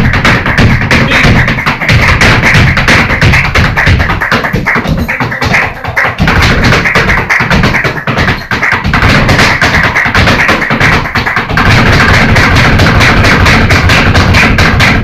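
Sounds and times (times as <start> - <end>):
flamenco guitar: 0.0 - 15.0
hand clapping: 0.0 - 15.0
shoes striking wooden stage: 0.0 - 15.0.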